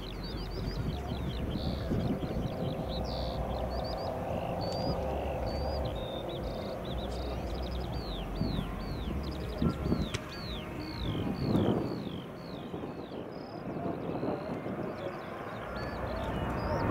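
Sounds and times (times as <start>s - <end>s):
jet engines rumbling: 0.0s - 16.9s
small birds chirping: 0.0s - 16.9s.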